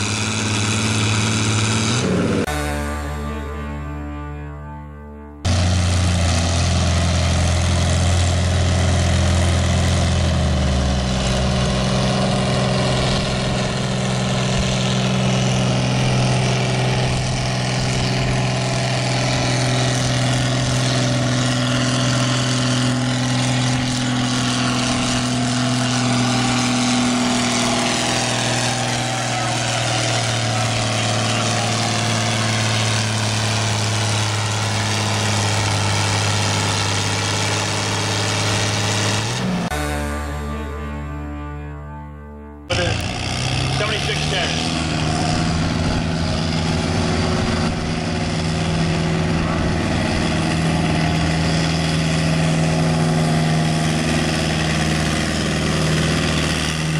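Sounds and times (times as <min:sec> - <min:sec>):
tractor engine under load: 0:00.0 - 0:02.8, 0:05.5 - 0:40.2, 0:42.7 - 0:56.9.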